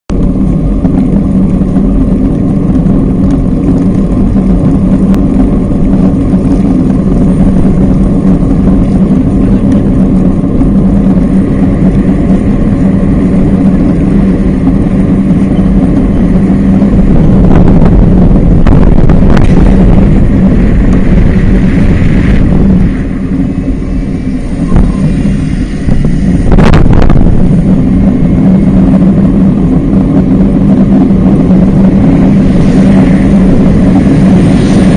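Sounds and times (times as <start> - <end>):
bicycle riding rumble: 0.1 - 34.9
passing traffic: 0.1 - 34.9.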